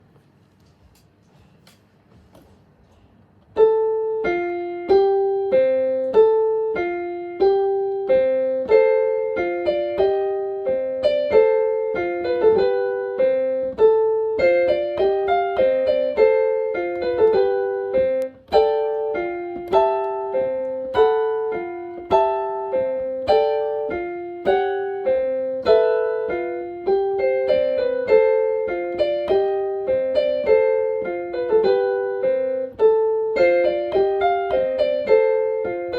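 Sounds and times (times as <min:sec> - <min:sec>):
bell-like keyboard melody: 0:03.6 - 0:35.9.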